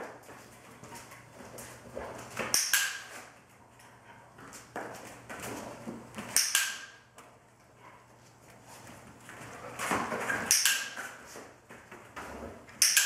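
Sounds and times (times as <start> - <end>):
soft rustling and shuffling: 0.1 - 2.4, 3.1 - 6.3, 7.1 - 12.8.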